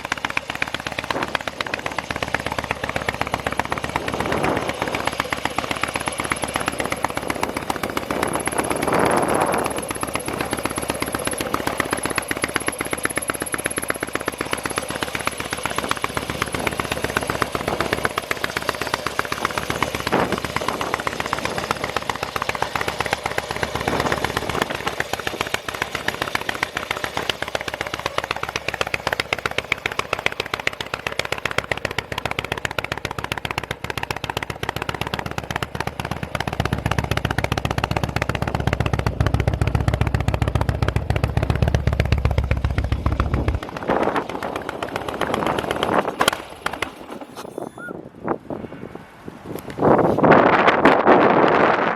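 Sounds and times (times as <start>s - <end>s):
motorcycle engine running: 0.0s - 48.2s.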